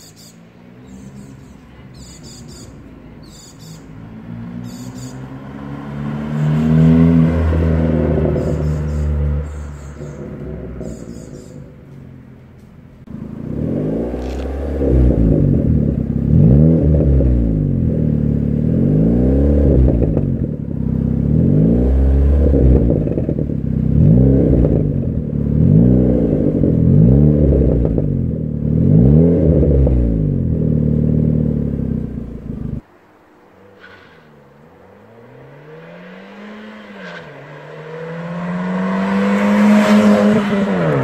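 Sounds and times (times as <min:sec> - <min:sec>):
car engine revving: 0:00.0 - 0:32.9, 0:33.5 - 0:41.0.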